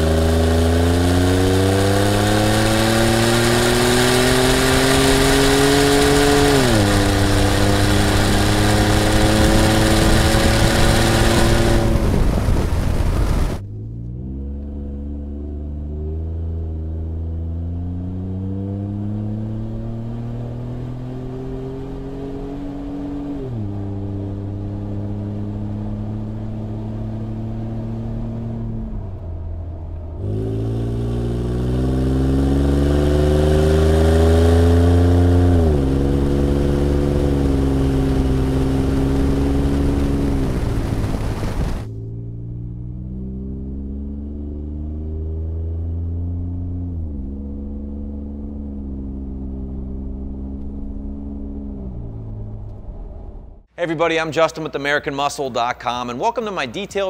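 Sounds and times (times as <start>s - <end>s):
truck engine accelerating hard: 0.0s - 53.7s.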